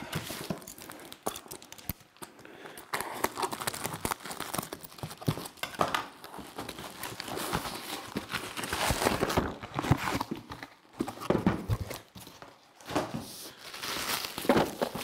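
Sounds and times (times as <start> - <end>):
plastic film crinkling: 0.0 - 10.8, 13.4 - 15.0.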